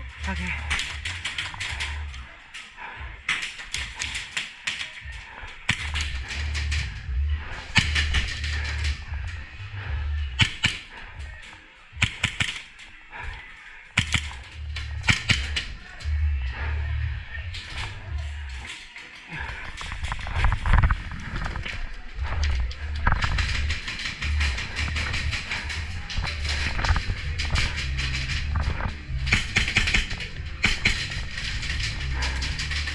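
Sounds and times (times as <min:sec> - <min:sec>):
music with heavy bass: 0:00.0 - 0:04.2, 0:05.1 - 0:12.5, 0:13.1 - 0:18.7, 0:19.3 - 0:32.9
sharp cracks: 0:00.2 - 0:07.0, 0:07.6 - 0:09.1, 0:10.3 - 0:13.0, 0:14.0 - 0:16.0, 0:17.5 - 0:32.9.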